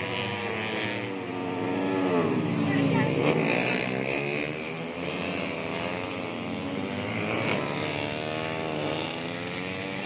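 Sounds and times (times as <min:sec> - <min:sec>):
motorcycle engines at high revs: 0:00.0 - 0:10.0.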